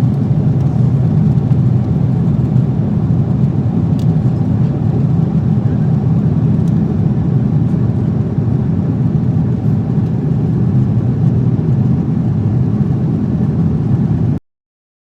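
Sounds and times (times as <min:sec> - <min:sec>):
airliner cabin rumble: 0:00.0 - 0:14.4.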